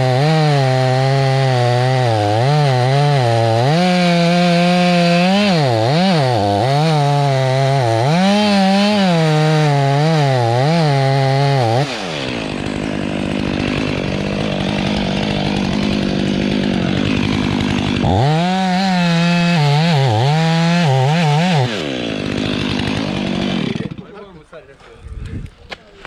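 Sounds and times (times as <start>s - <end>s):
chainsaw cutting wood: 0.0s - 24.4s.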